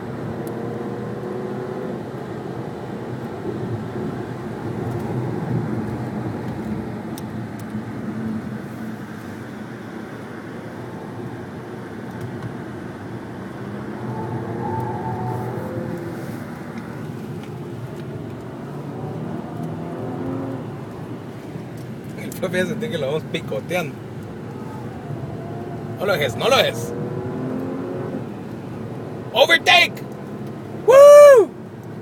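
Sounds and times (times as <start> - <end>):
car engine from inside cabin: 0.0 - 32.0
road noise: 0.0 - 32.0.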